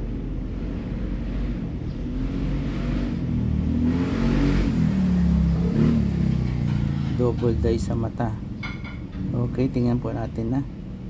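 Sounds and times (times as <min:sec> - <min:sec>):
vehicle engine passing: 0:00.0 - 0:10.8.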